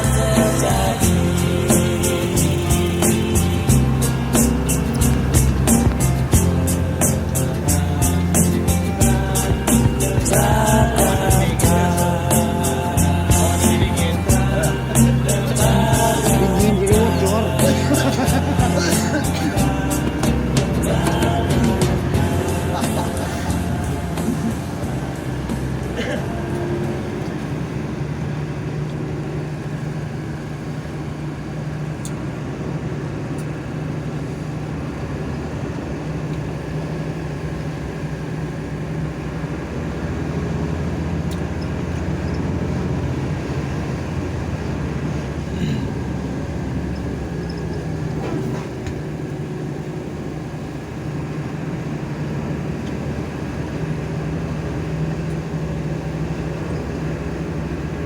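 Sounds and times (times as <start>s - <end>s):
bus engine hum: 0.0s - 58.0s
road noise: 0.0s - 58.0s.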